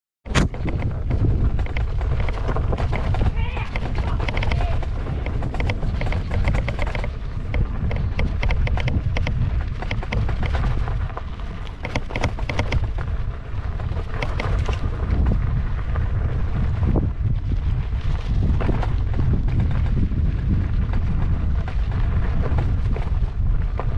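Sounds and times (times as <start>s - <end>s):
wind buffeting microphone: 0.3s - 23.9s
tyre rattling over gravel: 0.5s - 23.9s.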